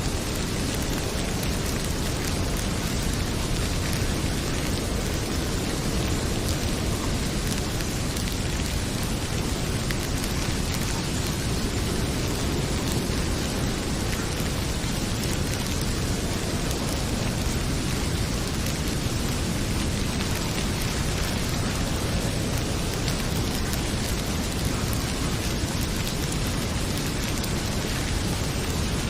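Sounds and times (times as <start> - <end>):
heavy rain pouring: 0.0 - 29.0
wood fire crackling: 0.0 - 29.0.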